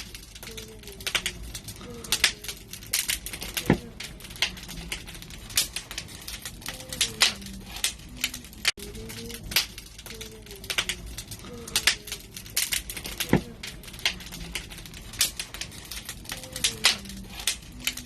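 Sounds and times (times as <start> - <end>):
sharp pops of fire: 0.0 - 18.0
wood fire crackling: 0.0 - 18.0.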